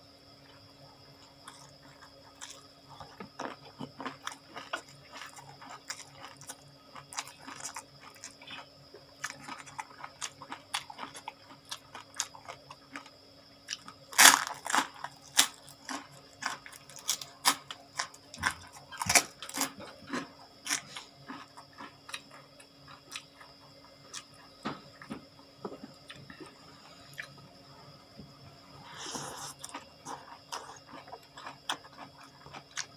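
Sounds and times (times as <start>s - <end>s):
chewing and crunching food: 0.4s - 27.6s, 28.8s - 32.9s.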